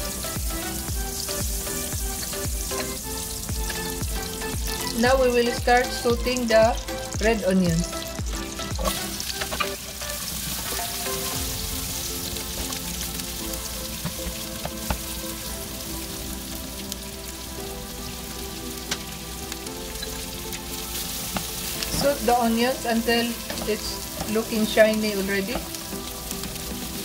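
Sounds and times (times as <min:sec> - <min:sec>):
background music: 0:00.0 - 0:27.0
onions sizzling in a pan: 0:00.0 - 0:27.0.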